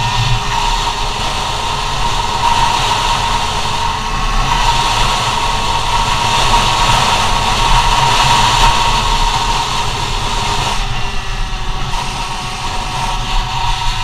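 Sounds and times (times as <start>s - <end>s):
low rumble: 0.0s - 14.0s
rushing noise: 0.0s - 14.0s
scooter engine whining: 0.0s - 14.0s.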